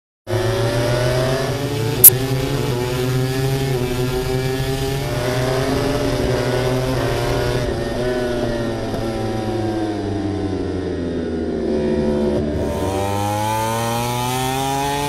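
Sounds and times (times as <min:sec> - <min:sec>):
racing motorcycles accelerating: 0:00.3 - 0:15.0.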